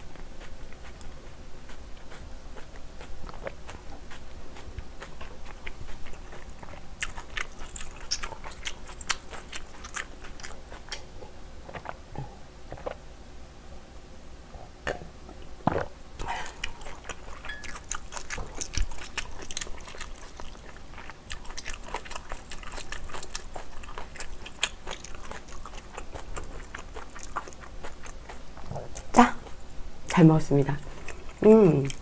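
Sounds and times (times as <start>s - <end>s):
chewing with wet mouth clicks: 0.1s - 11.1s, 16.2s - 30.2s, 30.8s - 32.0s.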